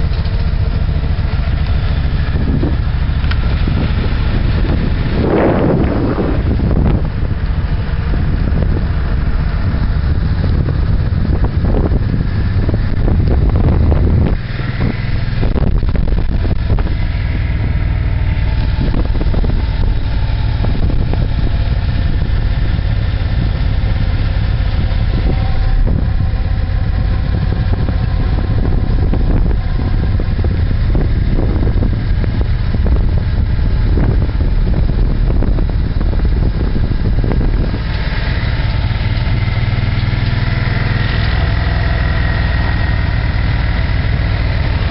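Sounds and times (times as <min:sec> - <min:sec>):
motorcycle engine running: 0:00.0 - 0:44.9
road and wind noise: 0:00.0 - 0:44.9.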